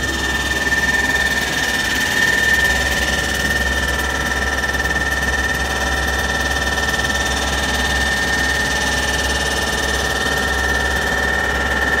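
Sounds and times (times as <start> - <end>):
constant high whine: 0.0 - 12.0.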